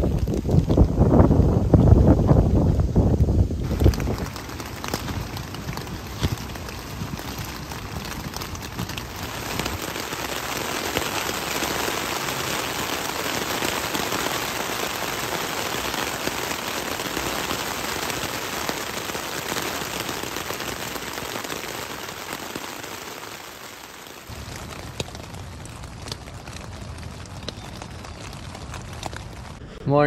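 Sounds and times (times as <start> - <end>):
heavy rain on a tent: 0.0 - 29.7.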